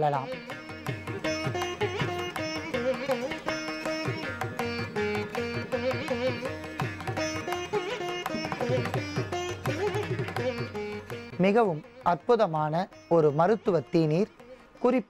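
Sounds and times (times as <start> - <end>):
indian classical plucked-string music: 0.0 - 15.0.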